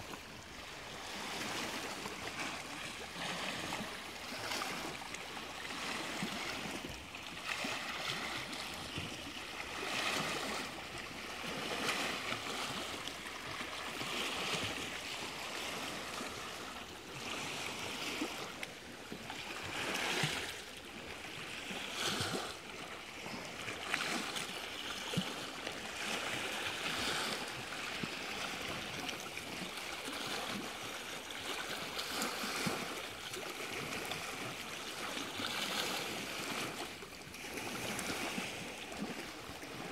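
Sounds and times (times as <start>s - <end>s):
small waves lapping on rock: 0.0s - 39.9s
waves splashing: 0.0s - 39.9s.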